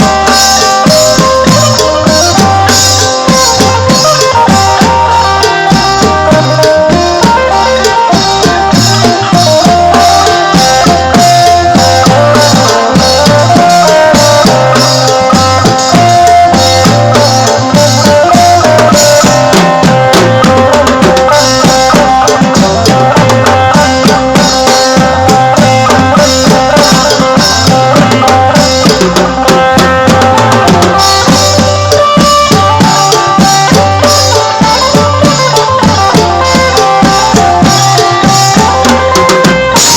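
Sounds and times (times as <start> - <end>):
bass: 0.0 - 39.9
drum kit beat: 0.0 - 39.9
melodic instrumental lead: 0.0 - 39.9.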